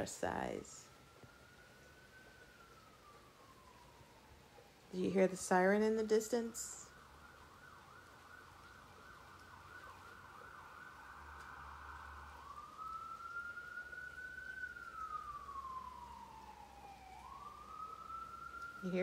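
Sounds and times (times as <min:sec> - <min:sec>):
distant siren: 0:00.0 - 0:19.0.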